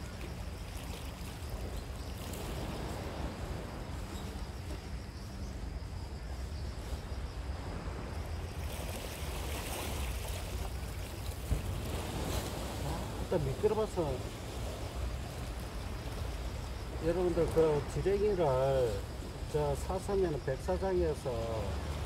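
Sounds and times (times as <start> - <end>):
wind buffeting microphone: 0.0 - 20.2
sea waves washing: 0.0 - 22.0.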